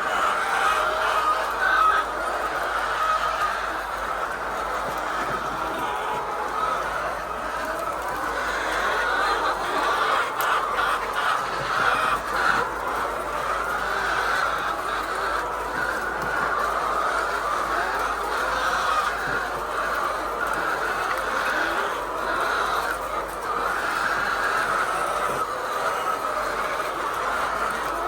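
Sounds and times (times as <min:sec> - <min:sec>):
flock of hens clucking: 0:00.0 - 0:28.0.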